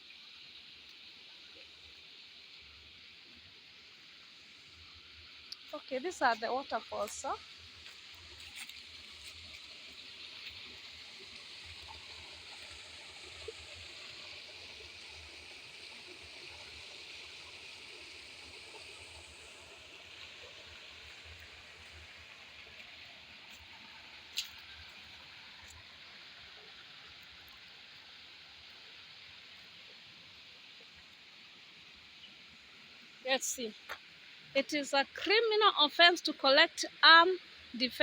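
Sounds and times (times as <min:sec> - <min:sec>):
faint waterfall rushing: 0:00.7 - 0:38.0.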